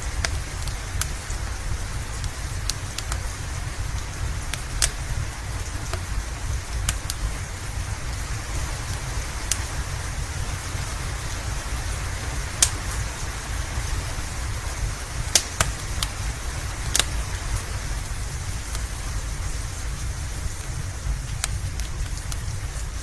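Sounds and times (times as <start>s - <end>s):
low steady rumble: 0.0s - 23.0s
steady rain: 0.0s - 23.0s
wood fire popping: 0.0s - 23.0s.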